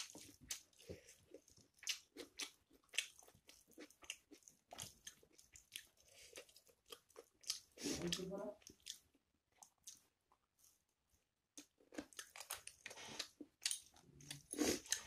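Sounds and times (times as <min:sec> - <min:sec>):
person chewing with wet smacks: 0:00.0 - 0:15.0.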